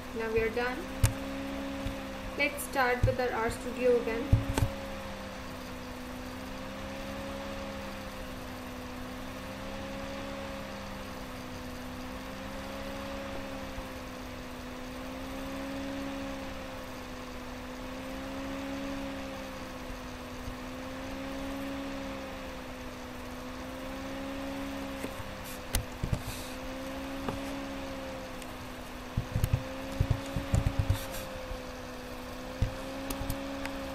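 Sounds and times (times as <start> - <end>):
wavering machine hum: 0.0 - 33.9.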